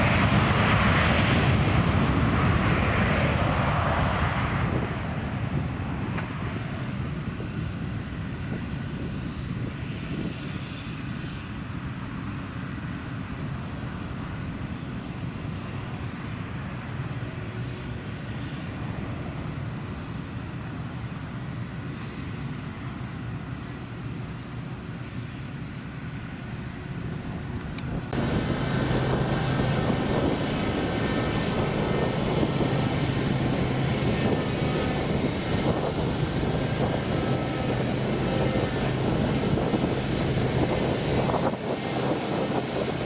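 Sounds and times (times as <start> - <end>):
airplane engine rumble: 0.0 - 43.0.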